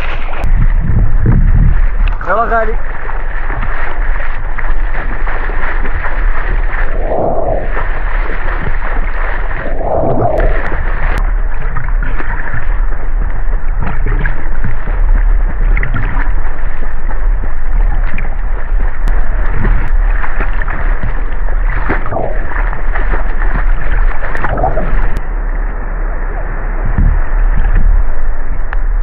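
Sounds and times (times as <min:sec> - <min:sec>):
sea water splashing: 0:00.0 - 0:29.0
wind rumble on microphone: 0:00.0 - 0:29.0.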